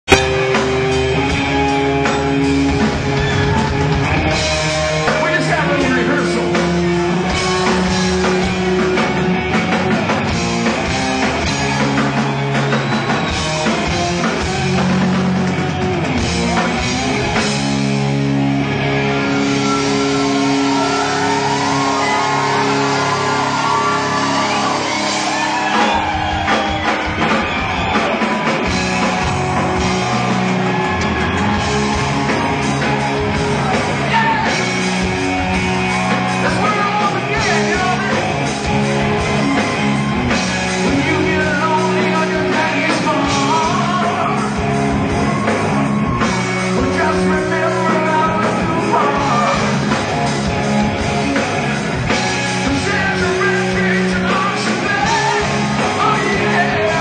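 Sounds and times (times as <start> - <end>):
live rock band: 0.0 - 57.0.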